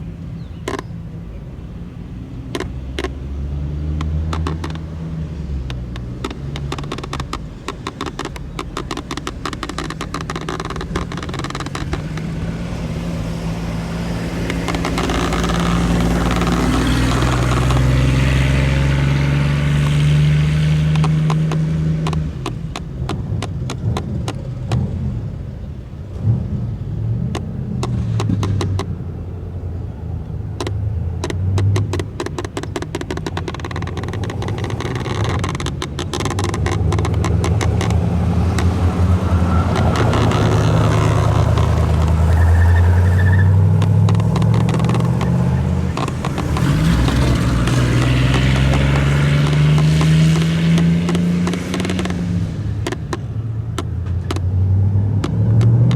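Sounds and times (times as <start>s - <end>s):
car engine revving: 0.0s - 55.9s
dense crackle of sharp clicks: 0.6s - 0.9s, 2.5s - 26.4s, 30.2s - 55.9s.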